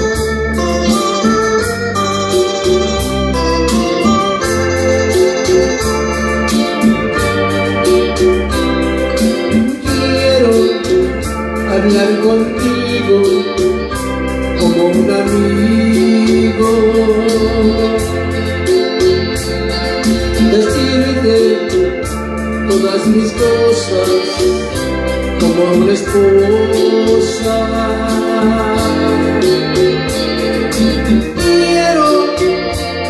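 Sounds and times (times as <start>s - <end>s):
bass and cymbal beat: 0.0s - 33.0s
electronic organ backing track: 0.0s - 33.0s.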